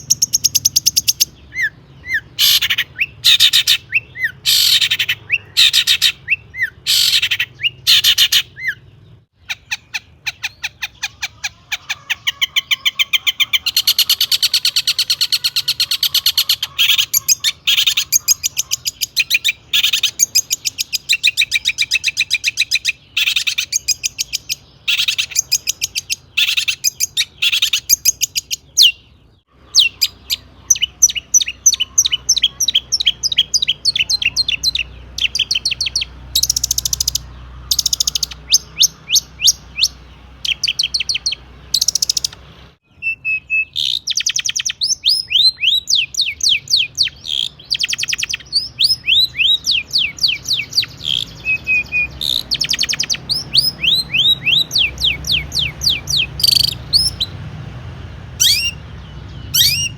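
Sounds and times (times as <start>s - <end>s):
bird singing whistled notes: 0.0s - 11.2s, 12.2s - 57.5s, 58.4s - 59.9s.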